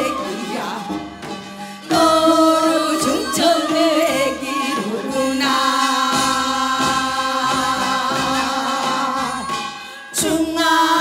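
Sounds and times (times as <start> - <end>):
traditional ensemble music: 0.0 - 11.0.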